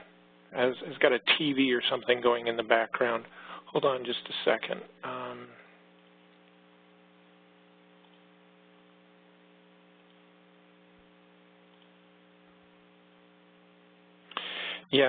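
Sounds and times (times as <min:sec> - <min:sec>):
faint electrical hum with hiss: 0:00.0 - 0:15.0.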